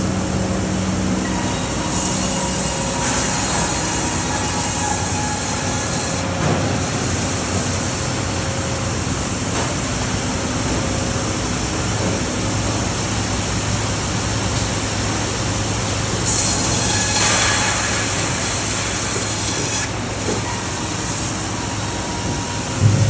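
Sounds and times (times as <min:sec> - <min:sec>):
machinery rumble and hiss: 0:00.0 - 0:23.0.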